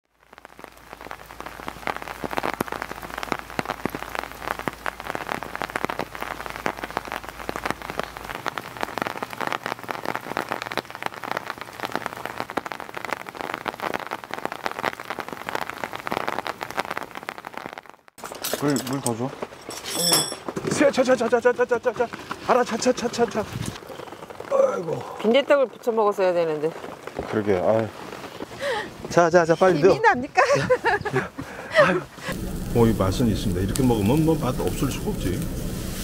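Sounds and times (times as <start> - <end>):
steady rain patter: 0.0 - 36.0.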